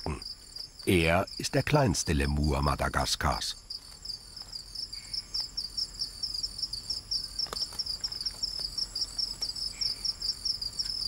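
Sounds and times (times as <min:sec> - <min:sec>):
crickets chirping: 0:00.0 - 0:11.0
high insect trill: 0:00.0 - 0:11.0.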